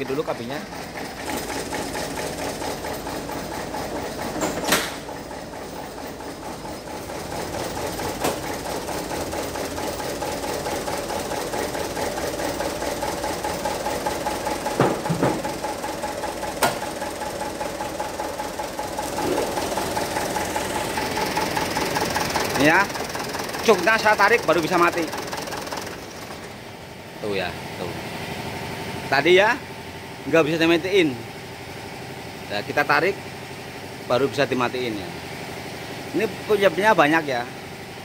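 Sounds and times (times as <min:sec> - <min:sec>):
diesel engine idling: 0:00.0 - 0:14.8, 0:15.4 - 0:32.4.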